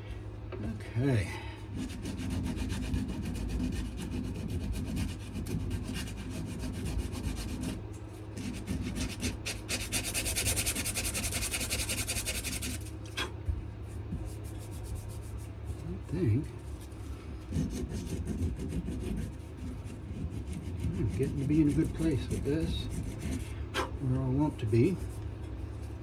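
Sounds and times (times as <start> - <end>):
steady low hum: 0.0 - 26.0
sandpaper rubbing on wood: 1.7 - 7.8, 8.4 - 13.0, 13.9 - 25.2.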